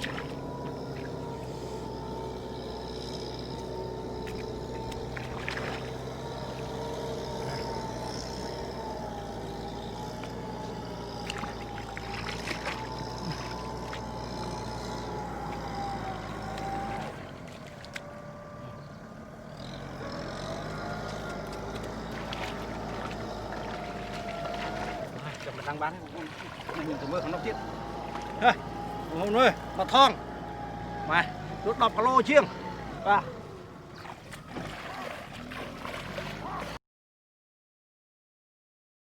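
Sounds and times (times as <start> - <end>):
tractor engine running: 0.0 - 36.8.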